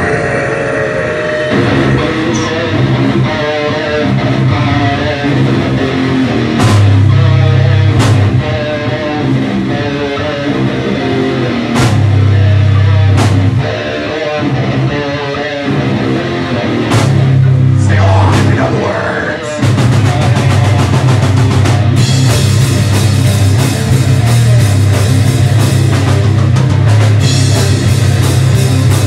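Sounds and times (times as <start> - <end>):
bass guitar: 0.0 - 29.0
electric guitar riff: 0.0 - 29.0
drum kit: 1.4 - 29.0.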